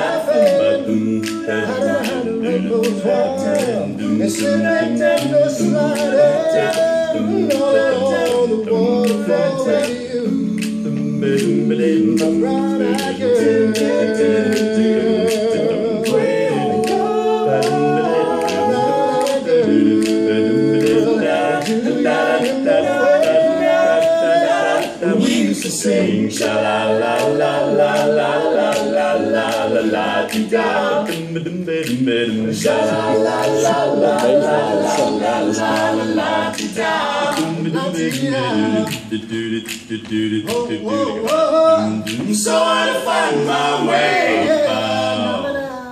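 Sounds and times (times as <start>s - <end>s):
male quartet singing a cappella: 0.0s - 45.9s.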